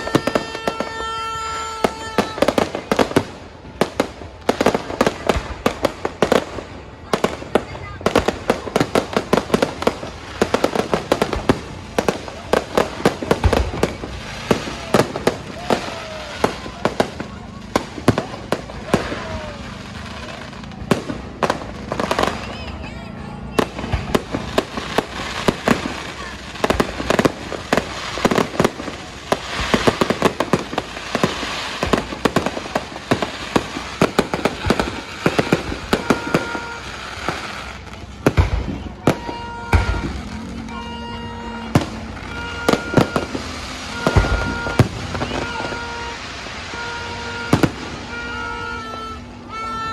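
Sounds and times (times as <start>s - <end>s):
fireworks bangs and cracks: 0.0s - 49.9s.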